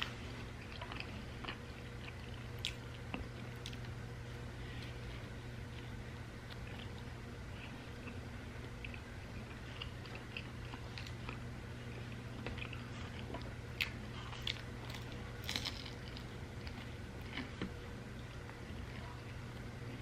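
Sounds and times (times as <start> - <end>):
chewing and biting pizza: 0.0 - 20.0
low room hum: 0.0 - 20.0.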